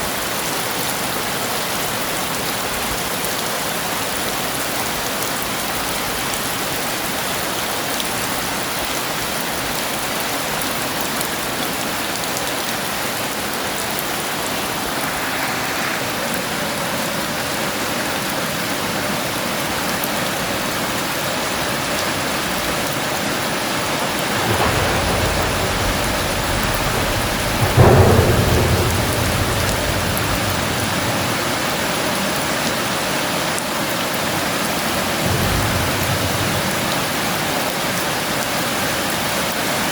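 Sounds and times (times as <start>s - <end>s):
heavy rain falling: 0.0s - 39.9s
thunder rumbling and cracking: 4.0s - 18.7s, 20.0s - 39.9s.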